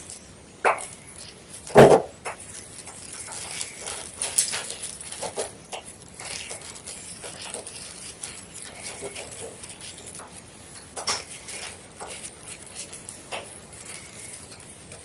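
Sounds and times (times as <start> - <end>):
chalk crunching and crumbling: 0.0 - 15.0.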